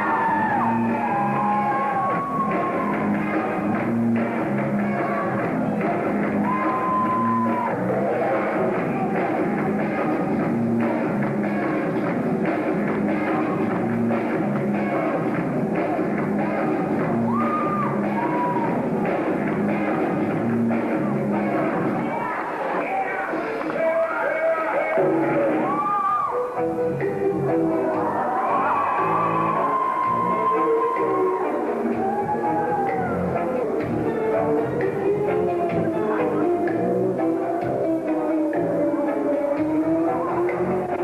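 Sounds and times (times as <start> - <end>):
loud rock music: 0.0 - 41.0.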